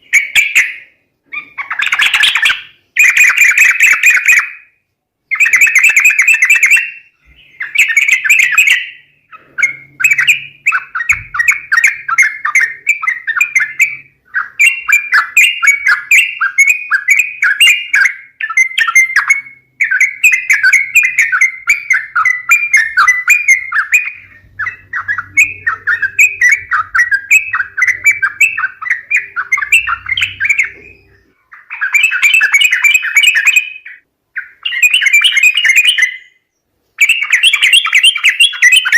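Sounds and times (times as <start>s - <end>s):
bulbul bubbly chattering calls: 0.1s - 4.5s, 5.3s - 36.2s.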